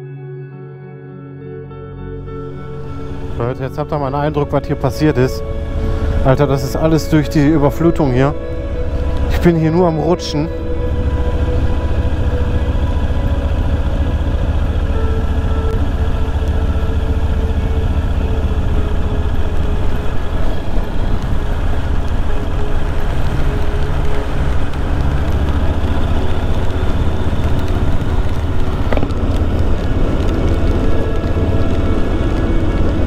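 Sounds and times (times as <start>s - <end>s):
motorcycle engine cruising: 2.2s - 33.0s
wind rumble on microphone: 2.4s - 33.0s
tyres hissing on wet road: 2.8s - 33.0s.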